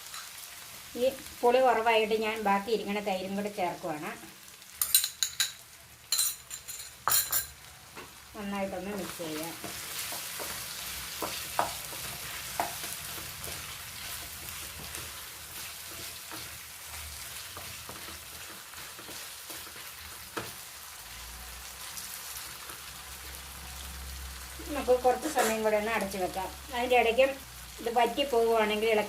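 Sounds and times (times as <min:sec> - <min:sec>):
curry sizzling in a pan: 0:00.0 - 0:29.0.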